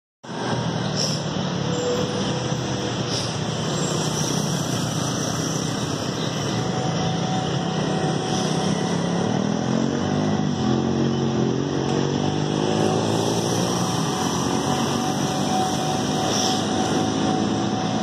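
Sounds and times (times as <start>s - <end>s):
road traffic rumble and hiss: 0.2s - 18.0s.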